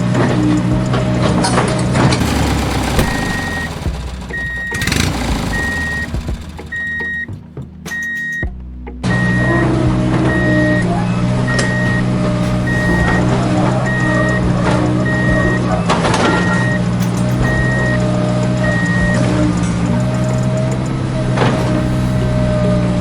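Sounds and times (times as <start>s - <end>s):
reversing alarm beeping: 0.0s - 22.9s
simulated engine running: 0.0s - 23.0s
steady engine hum: 0.0s - 23.0s.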